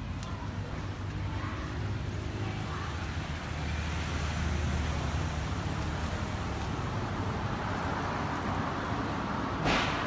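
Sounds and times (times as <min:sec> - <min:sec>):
vehicle noise rumble: 0:00.0 - 0:10.0.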